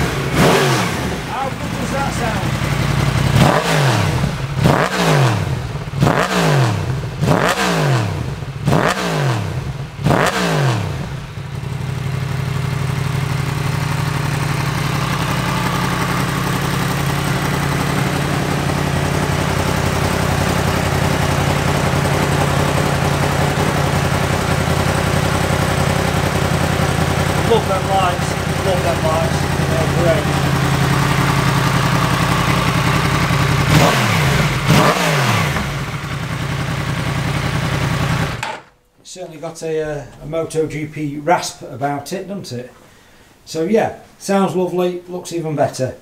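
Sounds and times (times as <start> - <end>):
motorcycle engine idling: 0.0 - 38.7
motorcycle engine revving: 0.0 - 38.7.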